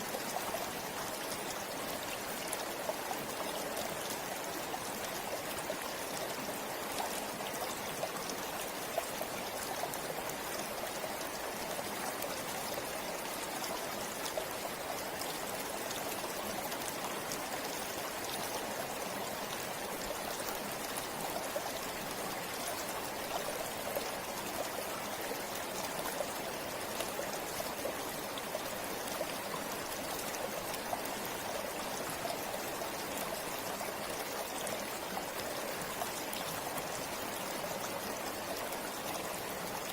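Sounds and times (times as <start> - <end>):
stream flowing over rocks: 0.0 - 39.9
water splashes and trickles: 0.0 - 39.9.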